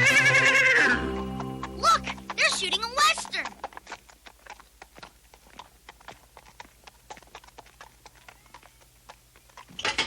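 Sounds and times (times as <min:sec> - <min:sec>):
horse hooves clip-clopping: 0:00.0 - 0:10.0.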